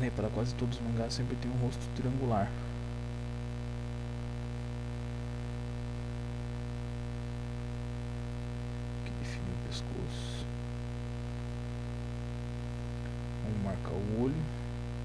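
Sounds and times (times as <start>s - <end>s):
electrical mains hum: 0.0s - 15.0s
soft scratchy noises: 0.0s - 15.0s.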